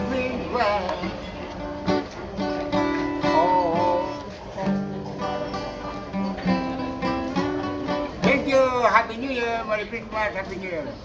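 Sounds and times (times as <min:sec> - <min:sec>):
acoustic guitar strumming: 0:00.0 - 0:09.9.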